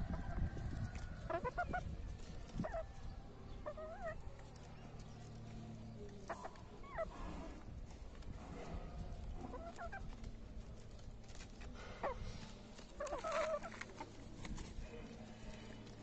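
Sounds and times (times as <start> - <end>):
chickens clucking: 0.0 - 16.0
low background rumble: 0.0 - 16.0.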